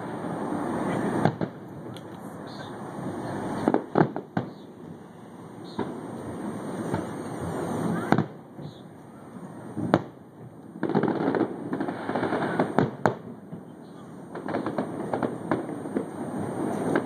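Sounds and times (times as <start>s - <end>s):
fireworks bursting: 0.0s - 17.0s
steady noisy background: 0.0s - 17.0s.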